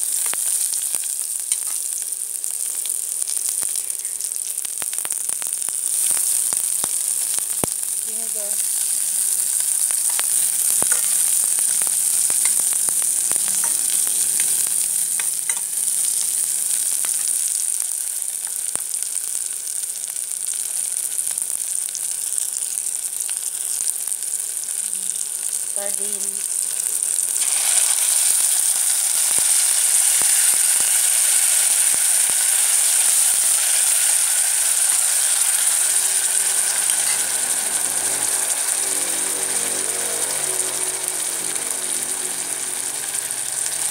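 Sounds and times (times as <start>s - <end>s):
food sizzling in a pan: 0.0s - 43.9s.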